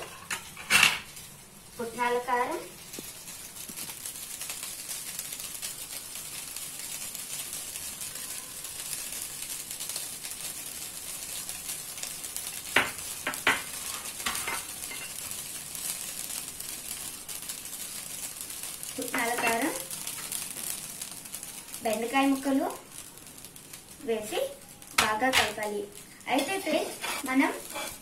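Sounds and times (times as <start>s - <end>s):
rice sizzling in a pot: 0.0s - 28.0s.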